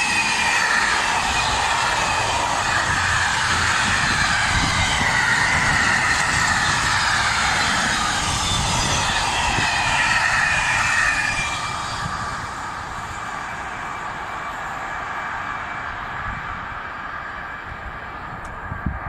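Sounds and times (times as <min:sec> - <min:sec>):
whistle-like wheel tones: 0:00.0 - 0:19.0.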